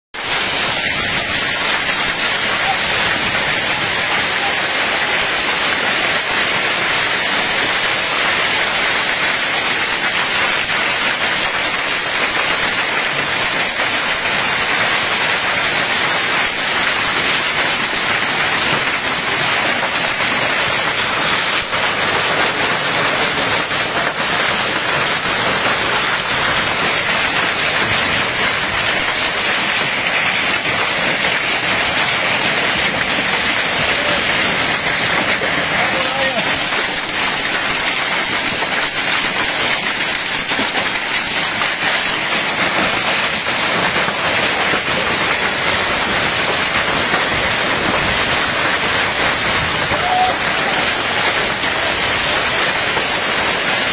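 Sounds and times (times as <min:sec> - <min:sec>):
heavy rain on paving and metal: 0:00.1 - 0:53.9.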